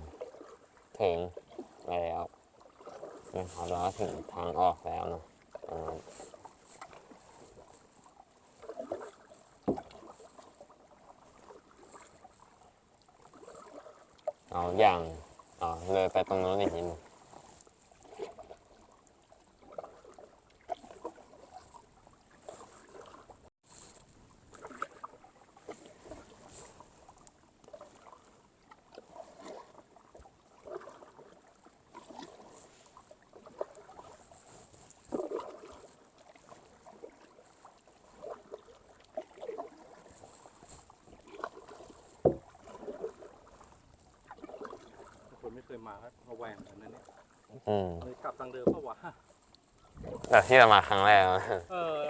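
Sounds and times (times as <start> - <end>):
kayak paddle splashing water: 0.0 - 52.0.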